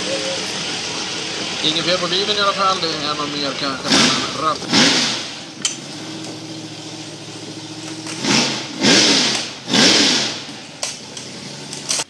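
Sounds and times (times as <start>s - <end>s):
race car engine idling and revving: 0.0s - 12.0s.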